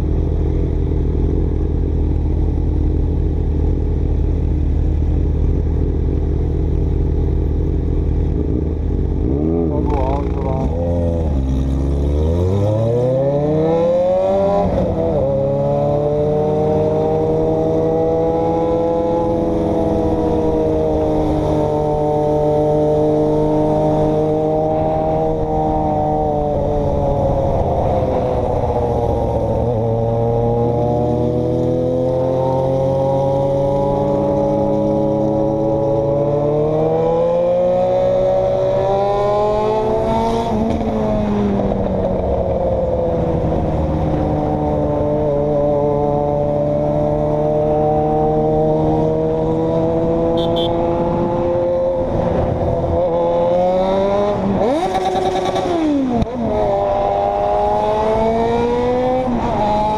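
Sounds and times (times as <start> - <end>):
vehicle engine revving: 8.3 - 59.9.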